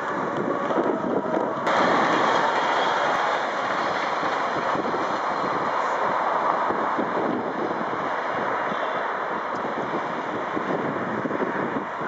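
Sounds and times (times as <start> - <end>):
high-speed train rumbling past: 0.0 - 12.0
wind on microphone: 0.0 - 12.0.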